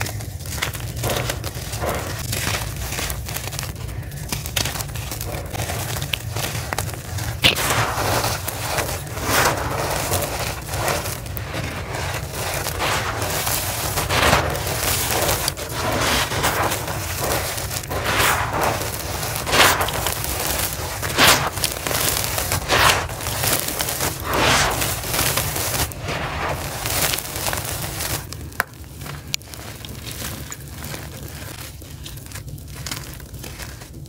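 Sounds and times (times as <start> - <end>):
hands crushing charcoal lumps: 0.0 - 34.0.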